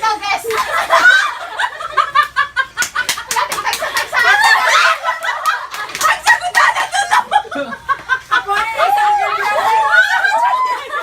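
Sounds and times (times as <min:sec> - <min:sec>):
voices: 0:00.0 - 0:11.0
people laughing: 0:00.5 - 0:11.0.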